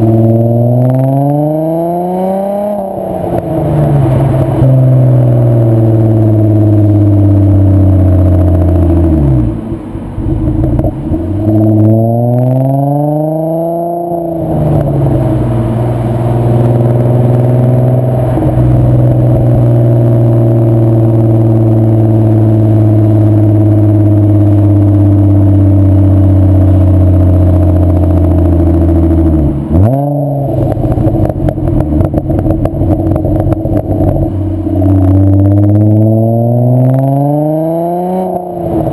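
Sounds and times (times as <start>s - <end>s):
car engine droning while driving: 0.0s - 38.9s
exhaust crackles: 0.0s - 38.9s.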